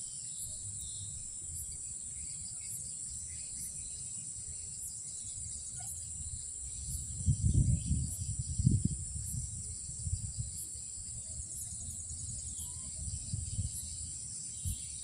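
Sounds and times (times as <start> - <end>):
night insects calling: 0.0 - 15.0.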